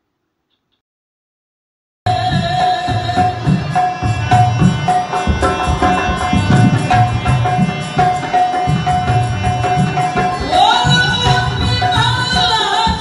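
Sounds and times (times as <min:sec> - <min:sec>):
drum steady rhythm: 0:02.1 - 0:13.0
harmonium held note: 0:02.1 - 0:13.0.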